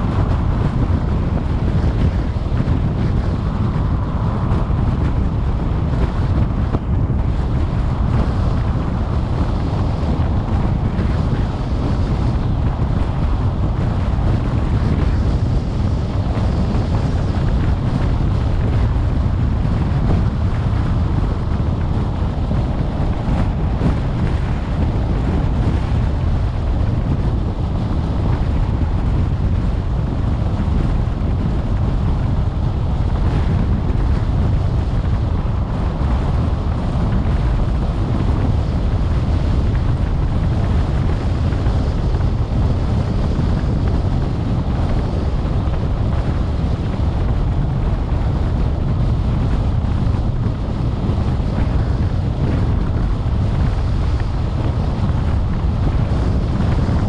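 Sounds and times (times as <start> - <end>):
wind hiss: 0.0 - 57.0.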